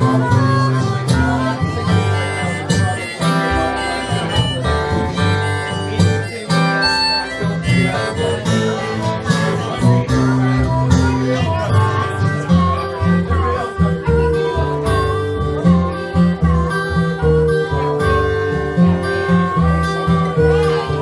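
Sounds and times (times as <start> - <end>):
acoustic guitar strummed and picked: 0.0 - 21.0
harmonica playing held notes: 0.0 - 21.0.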